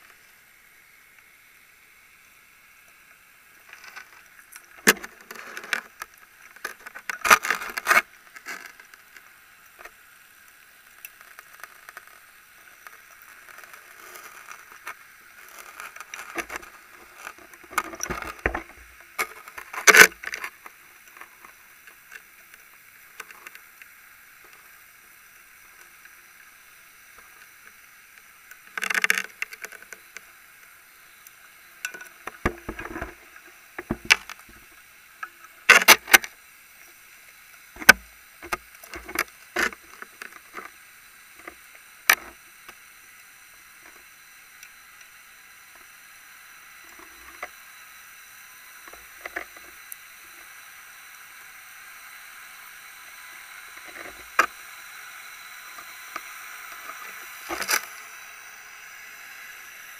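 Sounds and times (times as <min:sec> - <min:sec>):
faint steady hiss: 0:00.0 - 0:59.9.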